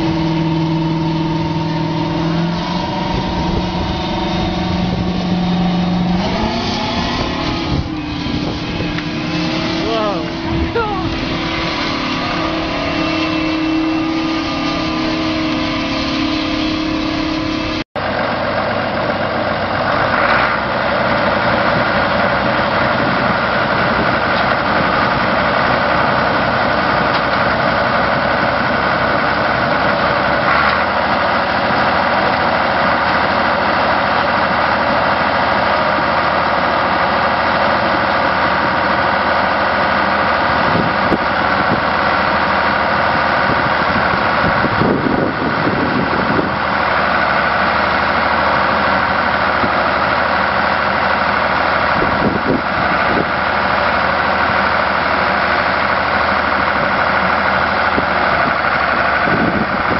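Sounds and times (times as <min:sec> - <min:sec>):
tracked machine engine running: 0:00.0 - 0:59.9.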